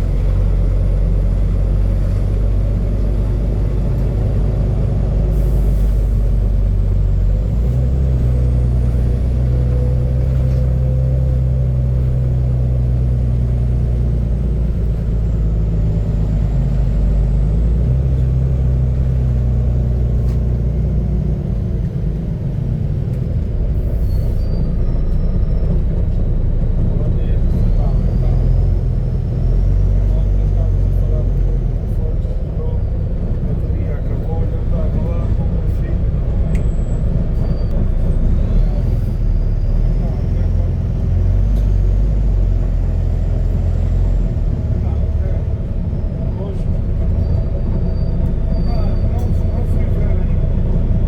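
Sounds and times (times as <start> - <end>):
bus engine running loudly: 0.0 - 51.0.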